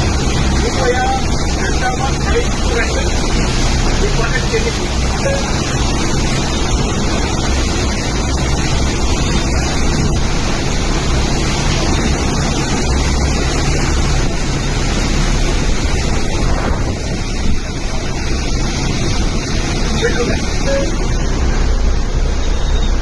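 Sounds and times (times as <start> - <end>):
low rumble: 0.0 - 23.0
wind and water rushing: 0.0 - 23.0.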